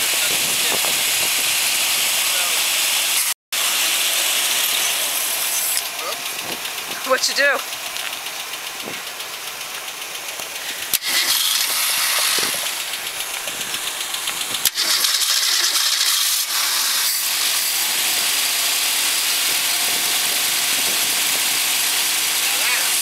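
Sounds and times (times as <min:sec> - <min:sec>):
car engine starting and running: 0:00.0 - 0:23.0.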